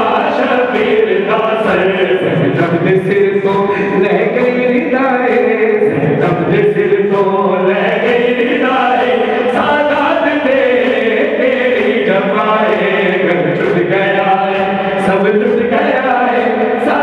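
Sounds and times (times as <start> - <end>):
group of voices singing in chorus: 0.0 - 17.0
man chanting into a microphone: 0.0 - 17.0.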